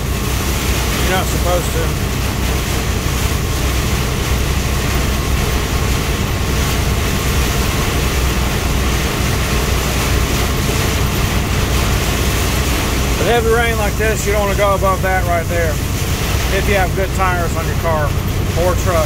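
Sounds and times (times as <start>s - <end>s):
heavy rain on truck windshield: 0.0s - 19.0s
truck engine droning: 0.0s - 19.0s.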